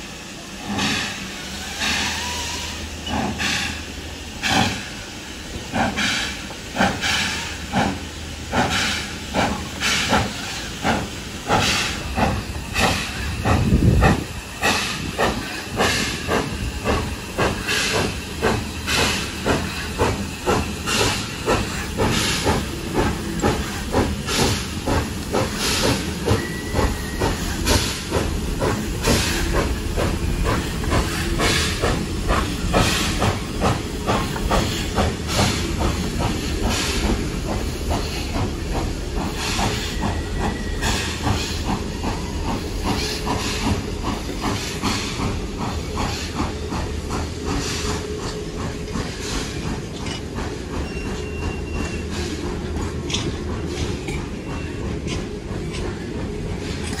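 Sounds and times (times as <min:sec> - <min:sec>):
steam hissing: 0:00.0 - 0:57.0
steam locomotive chuffing: 0:00.0 - 0:57.0.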